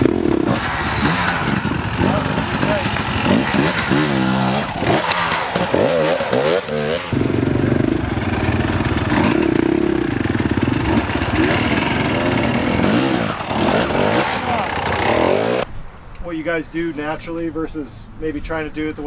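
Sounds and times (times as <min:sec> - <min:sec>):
dirt bike engine revving: 0:00.0 - 0:15.7.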